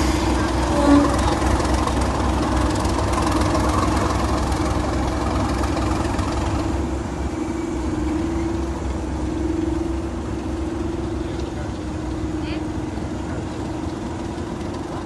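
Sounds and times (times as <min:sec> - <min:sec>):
diesel locomotive engine idling: 0:00.0 - 0:15.0.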